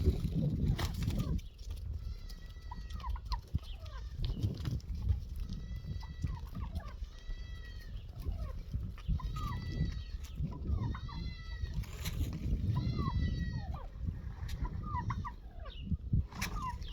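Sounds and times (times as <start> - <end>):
farmyard animals calling: 0.0 - 16.9.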